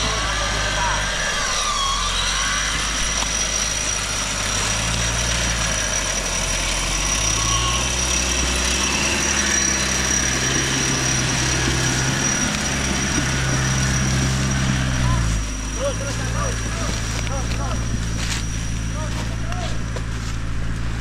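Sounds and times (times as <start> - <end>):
engine running at low revs: 0.0 - 21.0.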